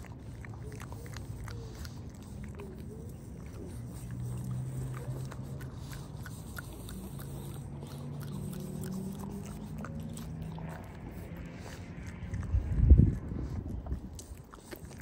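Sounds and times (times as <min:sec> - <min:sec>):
dog crunching a bone: 0:00.0 - 0:15.0.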